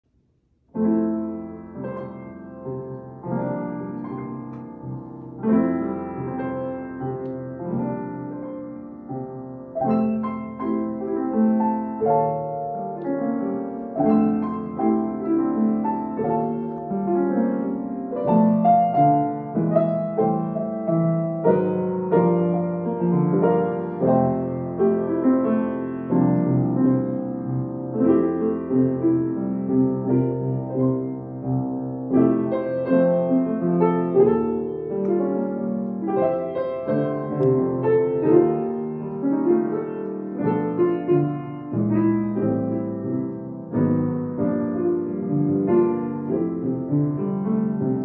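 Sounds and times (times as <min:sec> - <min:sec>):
piano music: 0:00.5 - 0:48.0.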